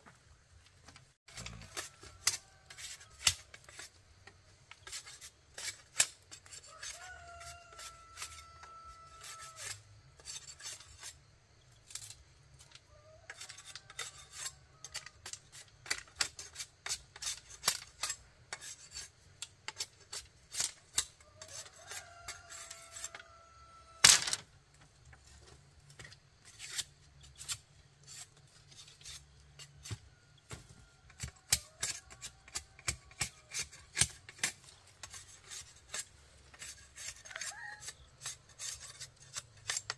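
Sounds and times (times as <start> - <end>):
hand tool rasping scrapes: 1.3 - 12.1, 13.3 - 23.5, 26.0 - 39.9.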